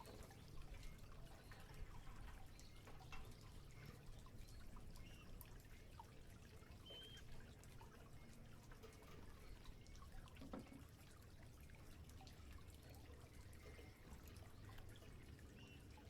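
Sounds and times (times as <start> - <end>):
water drips and splashes: 0.0 - 16.0.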